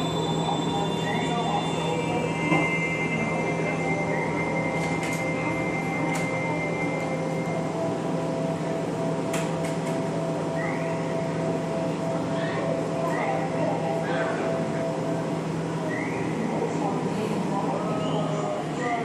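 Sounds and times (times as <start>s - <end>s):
machine hum: 0.0s - 18.8s.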